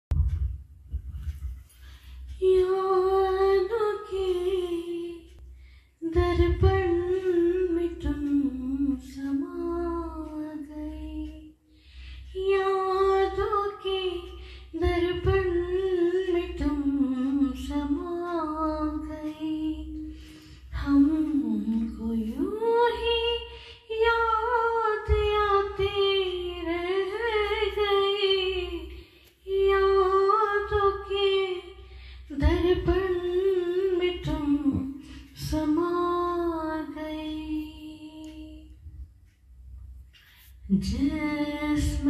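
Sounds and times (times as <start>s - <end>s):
woman singing unaccompanied: 2.4s - 5.4s, 6.0s - 11.6s, 12.3s - 38.8s, 40.7s - 42.0s.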